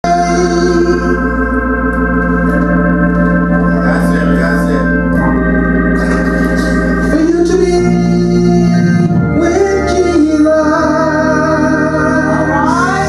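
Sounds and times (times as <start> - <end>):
organ playing chords: 0.0 - 13.0.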